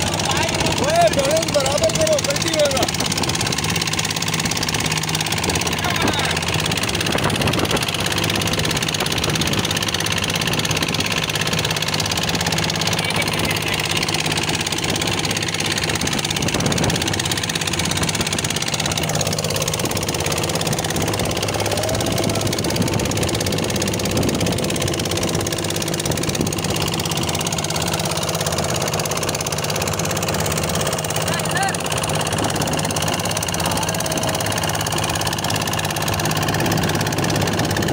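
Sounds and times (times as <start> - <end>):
boat engine droning: 0.0 - 37.9.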